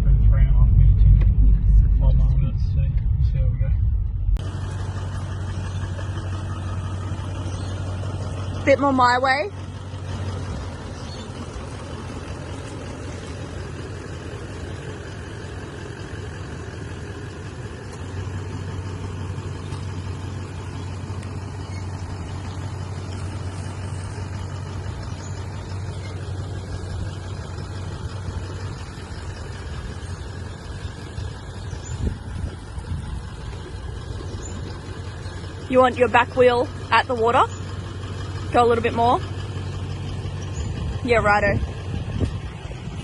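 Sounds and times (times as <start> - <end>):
car engine running slowly: 0.0 - 43.0.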